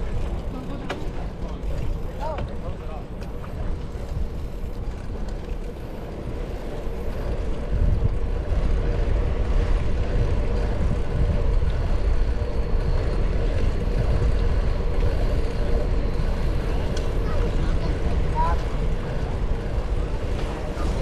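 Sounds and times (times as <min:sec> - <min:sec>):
bicycle riding noise on trail: 0:00.0 - 0:21.0
wind rumbling on microphone: 0:00.0 - 0:21.0.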